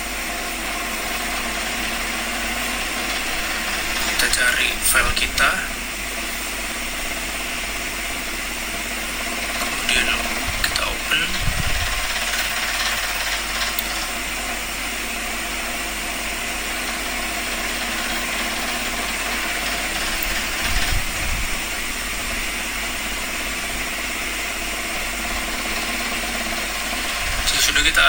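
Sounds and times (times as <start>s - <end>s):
machine running: 0.0s - 28.0s.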